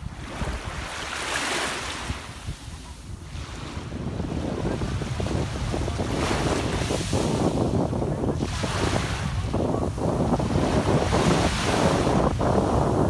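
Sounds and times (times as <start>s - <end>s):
sea waves washing in: 0.0s - 13.0s
wind buffeting microphone: 0.0s - 13.0s.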